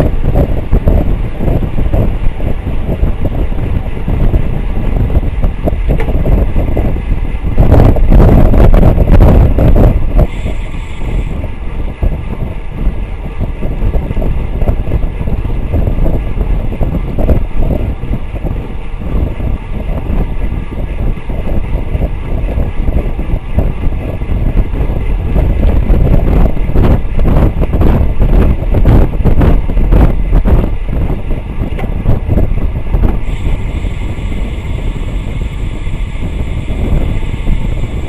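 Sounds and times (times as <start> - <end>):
tyre and road rumble: 0.0 - 38.0
wind buffeting microphone: 0.0 - 38.0.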